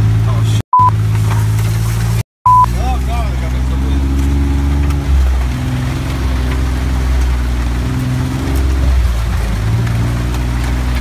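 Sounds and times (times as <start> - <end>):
rain: 0.0 - 11.0
utility vehicle engine running: 0.0 - 11.0.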